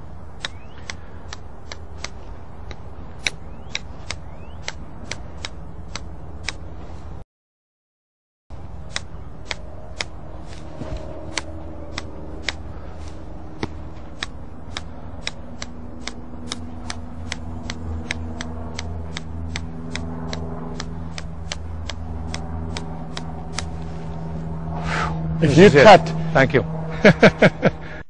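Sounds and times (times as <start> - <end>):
steady low hum: 0.0 - 7.2, 8.5 - 28.0.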